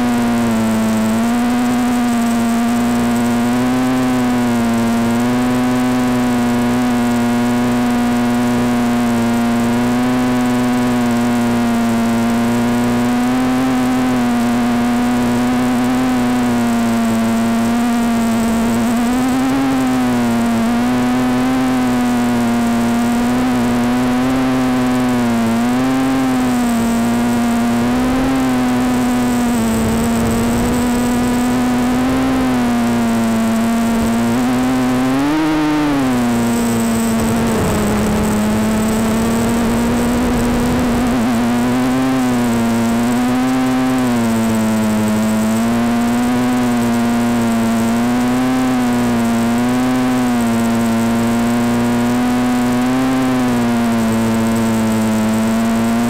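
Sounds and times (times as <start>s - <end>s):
quadcopter buzzing whine: 0.0s - 56.0s.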